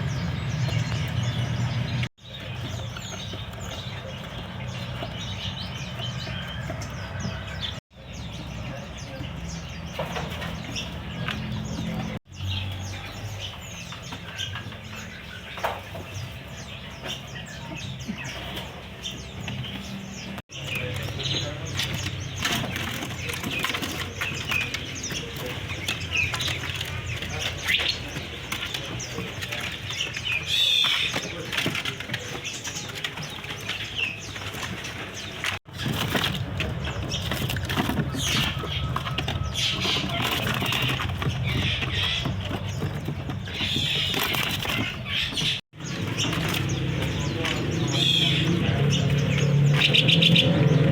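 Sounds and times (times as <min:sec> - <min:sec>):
songbirds chirping and trilling: 0:00.0 - 0:50.9
wings fluttering in cages: 0:00.0 - 0:50.9.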